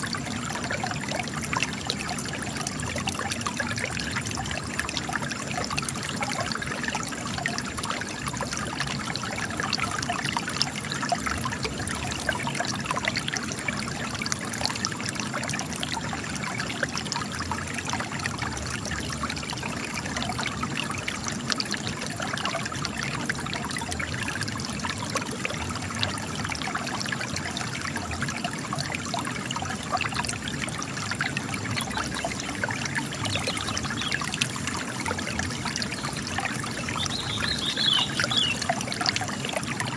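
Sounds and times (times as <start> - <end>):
spring water trickling: 0.0 - 39.9.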